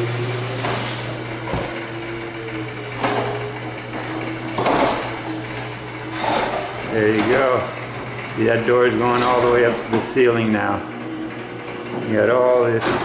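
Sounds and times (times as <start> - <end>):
garage door opener humming: 0.0 - 13.0.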